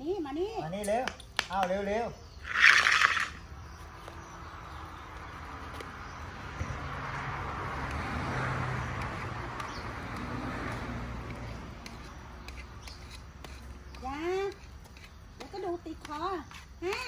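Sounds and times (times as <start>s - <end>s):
road vehicle passing: 2.0s - 16.9s.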